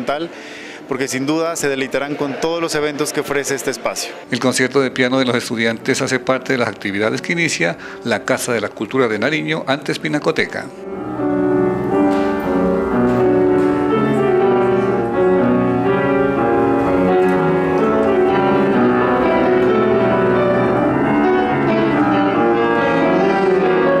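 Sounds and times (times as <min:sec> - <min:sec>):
grand piano classical piece: 0:00.0 - 0:24.0.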